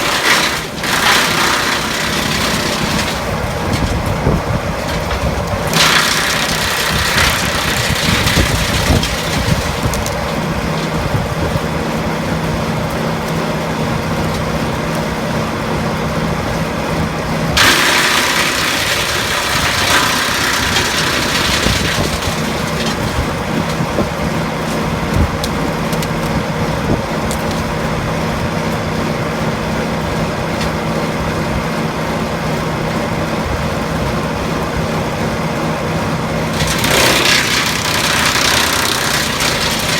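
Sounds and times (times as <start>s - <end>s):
branch chipper running: 0.0s - 39.9s
chipper shredding branches: 0.0s - 39.9s
tractor engine hum: 0.0s - 39.9s.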